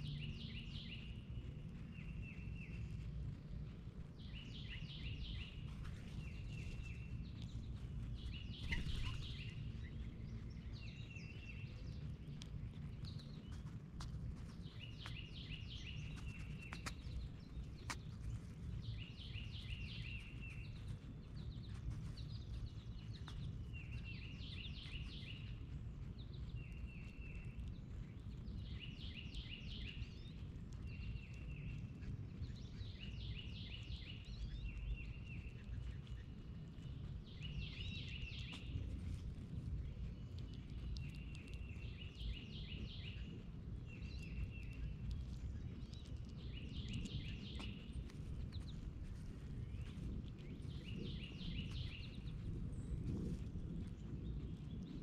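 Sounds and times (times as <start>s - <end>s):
low background rumble: 0.0s - 55.0s
songbird singing: 0.0s - 55.0s.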